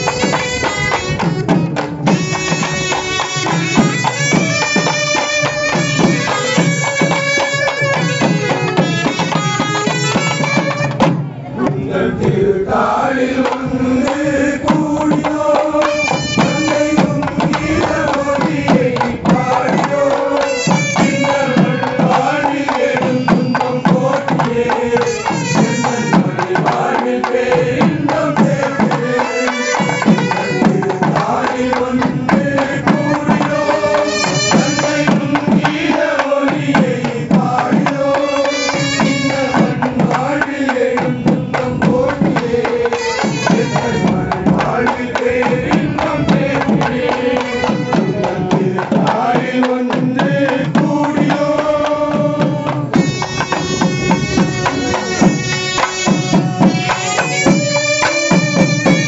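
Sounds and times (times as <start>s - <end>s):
barrel drum beaten with stick: 0.0s - 12.4s, 13.4s - 59.0s
group of men singing: 0.0s - 59.0s.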